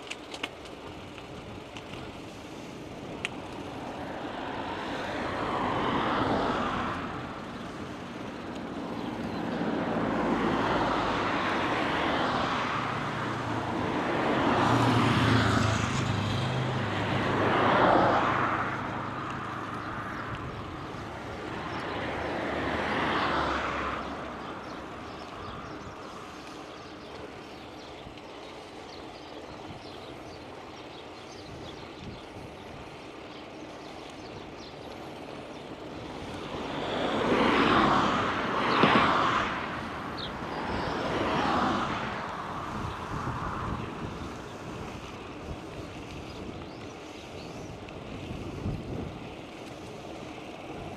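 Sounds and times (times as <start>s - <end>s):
vehicles passing: 0.0s - 50.9s.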